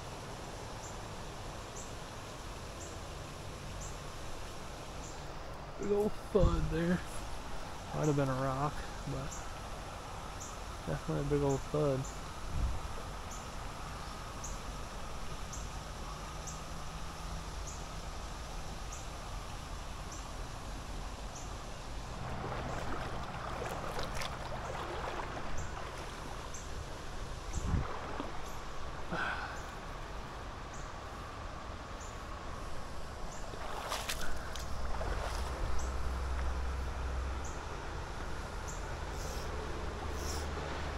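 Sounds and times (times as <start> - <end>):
river water running over rocks: 0.0 - 40.9.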